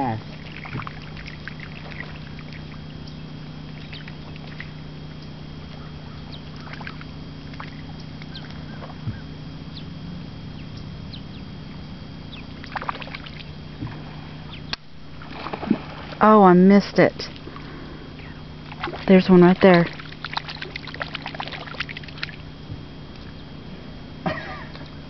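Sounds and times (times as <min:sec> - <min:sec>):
steady low drone: 0:00.0 - 0:25.0.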